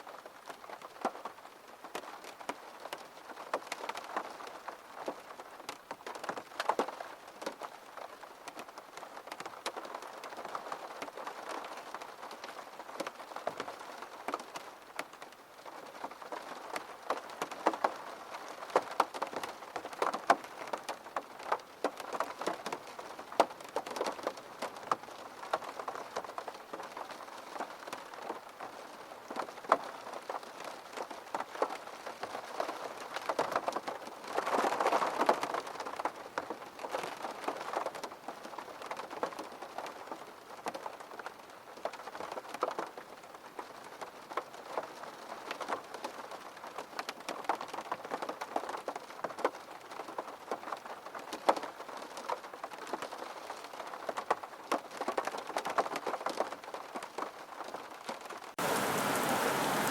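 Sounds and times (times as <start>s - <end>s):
rain pattering on hard surface: 0.0s - 59.9s.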